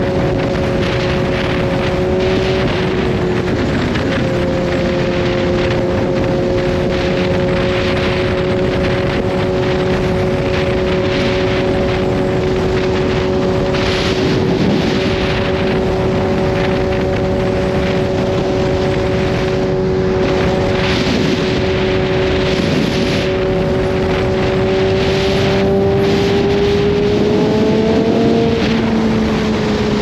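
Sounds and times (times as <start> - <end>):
motorcycle engine cruising: 0.0 - 30.0
wind rushing over microphone: 0.0 - 30.0.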